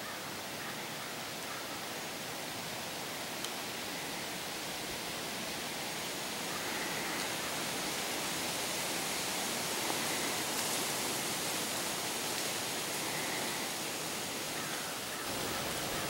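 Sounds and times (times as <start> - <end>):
wind rushing through trees: 0.0 - 16.0.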